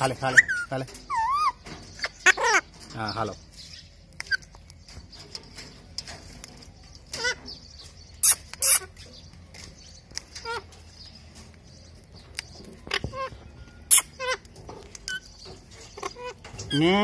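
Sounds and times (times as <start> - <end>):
parakeets squawking: 0.0 - 17.0.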